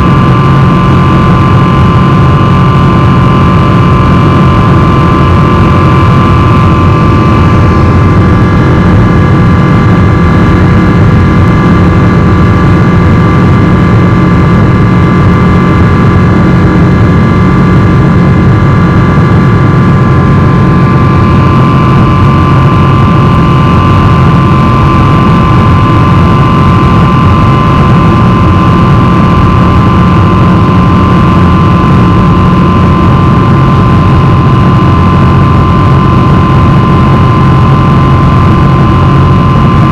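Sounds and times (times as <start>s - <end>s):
high engine whine: 0.0s - 39.9s
jet engine drone in cabin: 0.0s - 39.9s.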